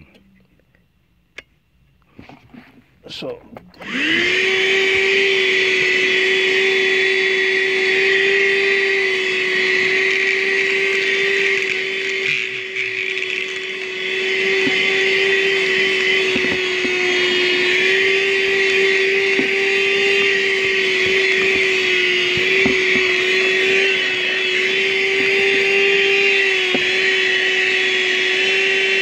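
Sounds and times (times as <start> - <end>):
handheld vacuum motor whining: 3.7 - 29.0.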